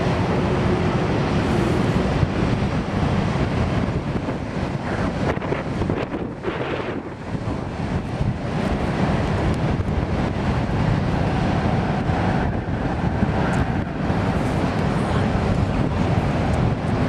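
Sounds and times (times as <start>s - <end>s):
freight train rumbling over bridge: 0.0s - 17.0s
wind buffeting microphone: 0.0s - 17.0s.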